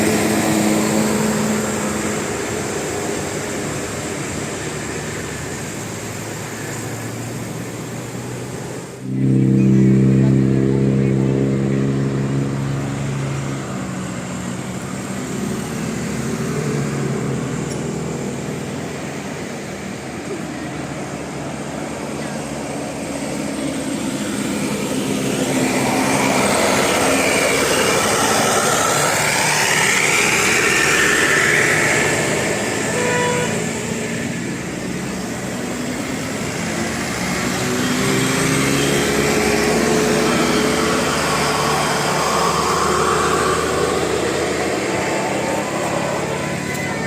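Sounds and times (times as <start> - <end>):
heavy vehicles driving past: 0.0 - 47.0.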